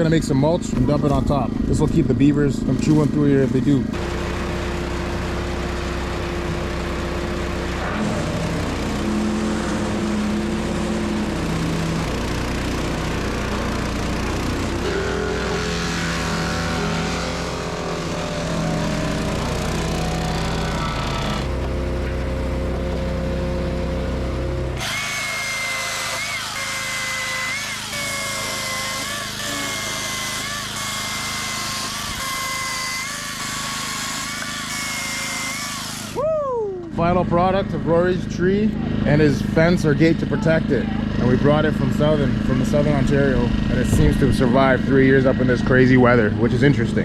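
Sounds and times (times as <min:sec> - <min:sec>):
wood chipper engine running: 0:00.0 - 0:47.0.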